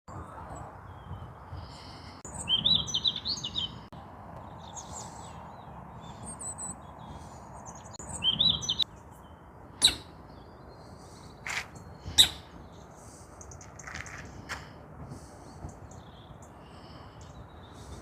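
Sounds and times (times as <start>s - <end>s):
songbirds singing: 0.1s - 18.0s.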